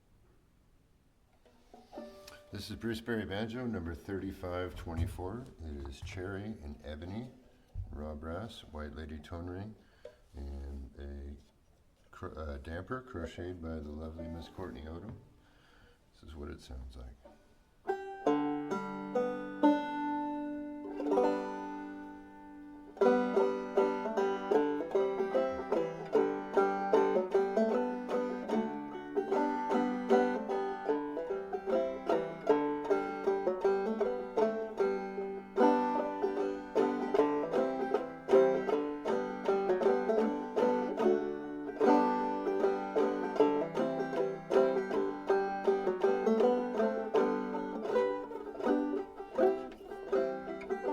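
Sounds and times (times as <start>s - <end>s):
banjo picking: 1.3s - 50.9s.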